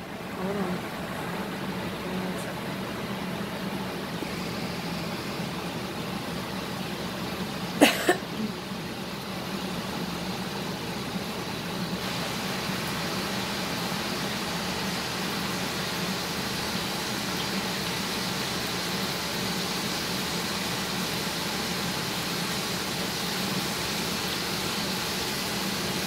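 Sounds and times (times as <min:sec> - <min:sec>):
range hood fan humming: 0:00.0 - 0:26.0.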